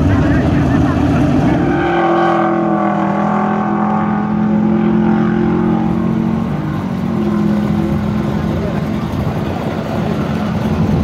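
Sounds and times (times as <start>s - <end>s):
engines accelerating at full throttle: 0.0s - 11.0s.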